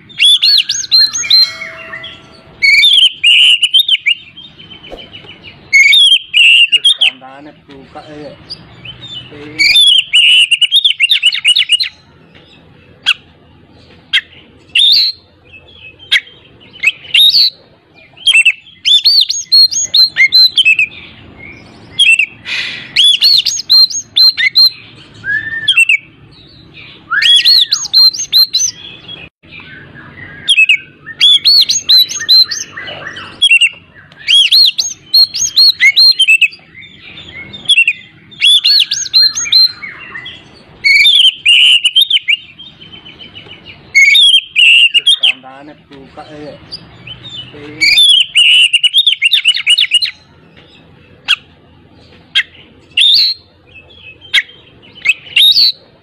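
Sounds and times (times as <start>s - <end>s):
bird singing whistles and trills: 0.0s - 7.2s, 8.4s - 13.2s, 14.1s - 45.4s, 46.2s - 51.5s, 52.3s - 55.9s.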